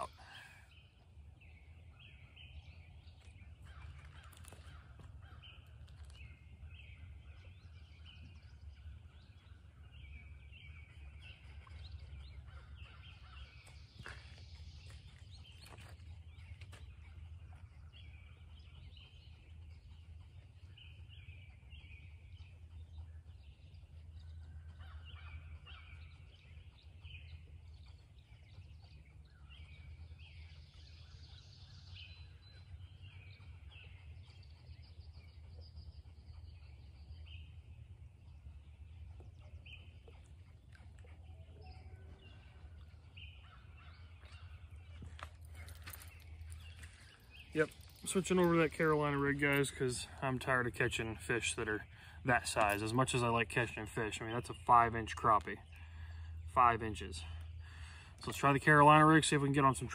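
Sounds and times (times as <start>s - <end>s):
low steady rumble: 0.0s - 59.9s
songbirds singing and chirping: 0.0s - 59.9s.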